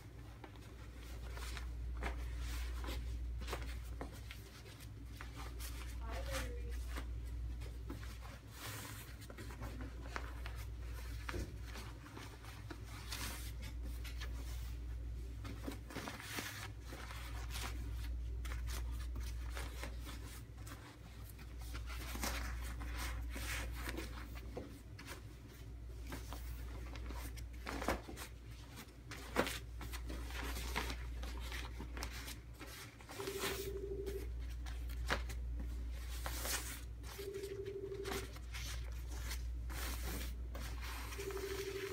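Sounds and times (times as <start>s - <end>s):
gown rustling and crinkling: 0.0s - 41.9s
steady low hum: 0.0s - 41.9s.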